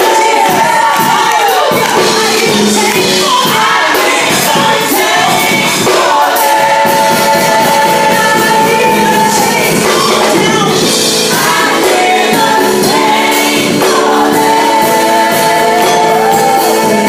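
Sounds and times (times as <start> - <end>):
gospel group singing: 0.0 - 17.0
instrumental backing with beat: 0.0 - 17.0.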